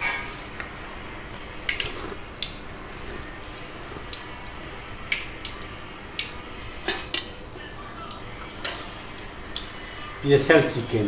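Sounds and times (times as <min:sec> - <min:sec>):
hot oil crackling: 0:00.0 - 0:11.0.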